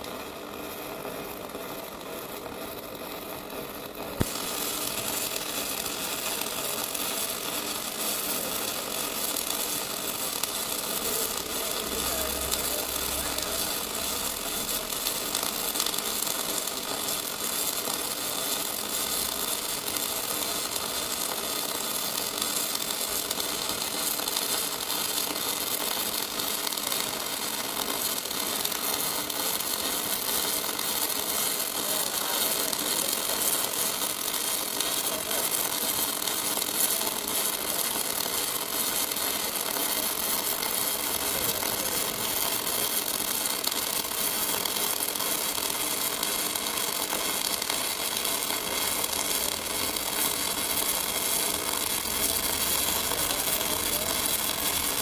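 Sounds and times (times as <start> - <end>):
welding arc hissing and crackling: 0.0 - 55.0.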